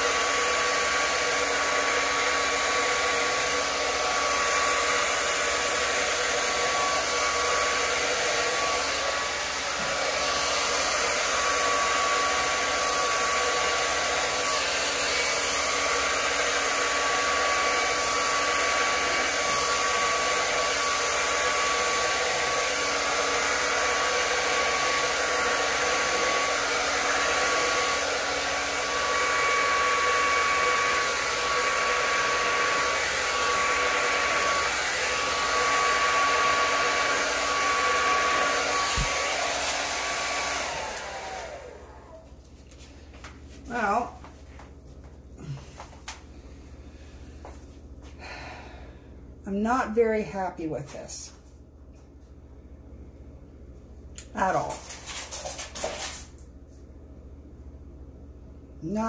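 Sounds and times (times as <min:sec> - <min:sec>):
hair dryer running: 0:00.0 - 0:48.9, 0:54.2 - 0:56.5.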